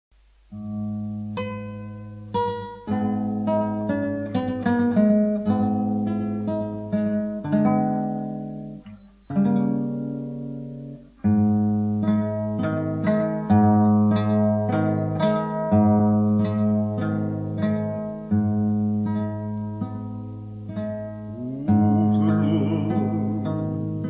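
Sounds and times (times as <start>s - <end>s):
acoustic guitar chords: 0.2s - 24.0s.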